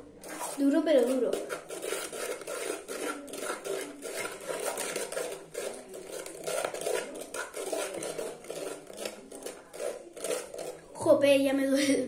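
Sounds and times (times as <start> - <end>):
metal spoon scraping slime in bowl: 0.0 - 11.0.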